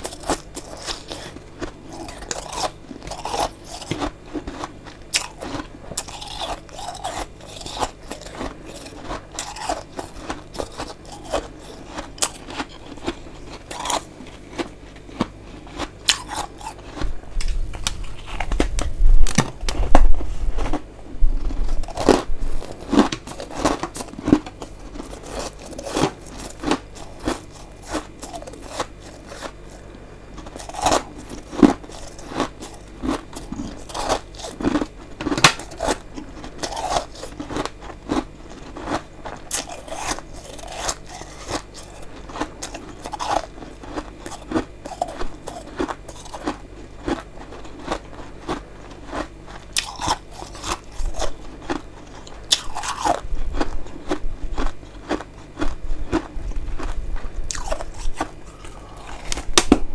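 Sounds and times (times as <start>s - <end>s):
crunching of chewed frost: 0.0s - 59.9s.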